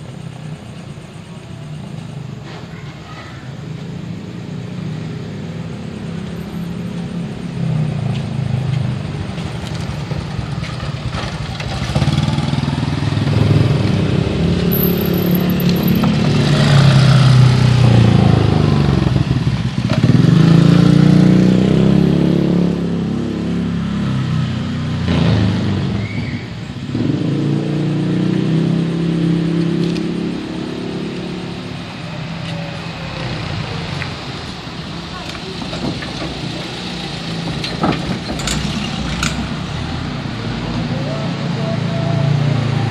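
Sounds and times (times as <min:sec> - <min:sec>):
cars passing by: 0:00.0 - 0:42.9
motorcycles passing by: 0:00.0 - 0:42.9.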